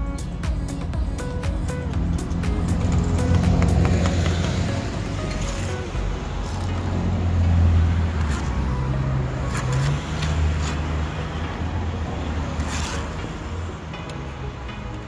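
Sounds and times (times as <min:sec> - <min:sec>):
vehicle engine rumble passing: 0:01.7 - 0:14.7.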